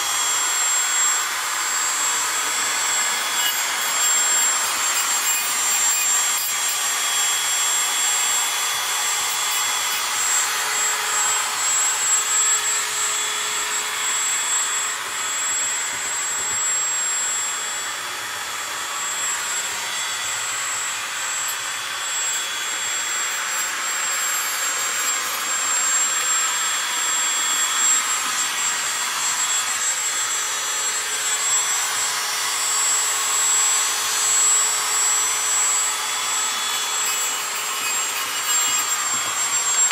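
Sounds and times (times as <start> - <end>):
machine hiss with high whine: 0.0 - 39.9.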